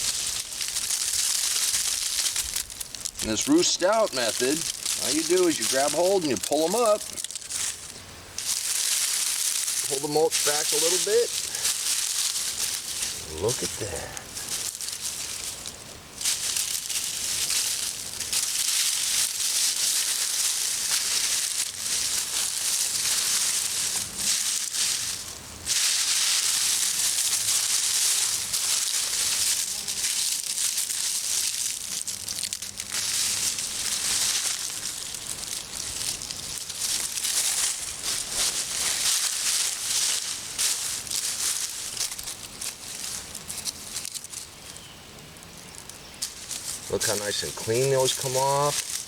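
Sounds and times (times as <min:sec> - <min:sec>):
dry mulch rustling and crunching: 0:00.0 - 0:49.0.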